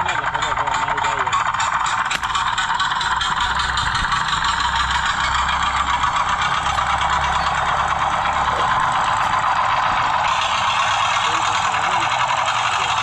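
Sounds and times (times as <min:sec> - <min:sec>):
small model mixer engine running: 0:00.0 - 0:13.0.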